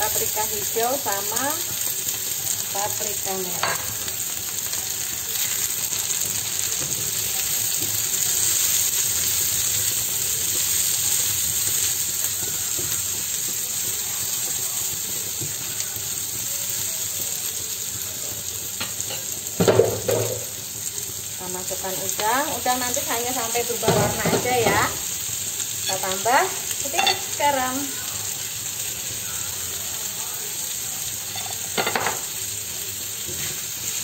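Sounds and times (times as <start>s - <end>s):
vegetables sizzling in frying pan: 0.0s - 34.0s.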